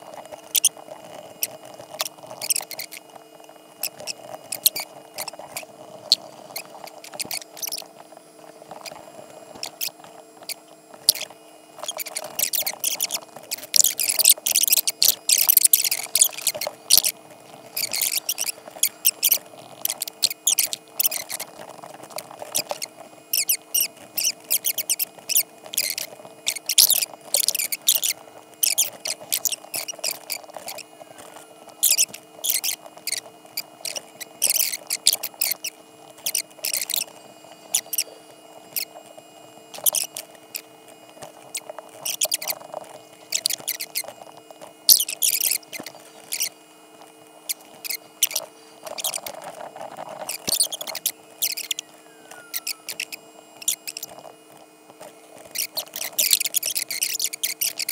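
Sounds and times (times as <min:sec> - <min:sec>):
steady low hum: 0:00.0 - 0:57.9
stylus scratching on drawing tablet: 0:00.0 - 0:57.9.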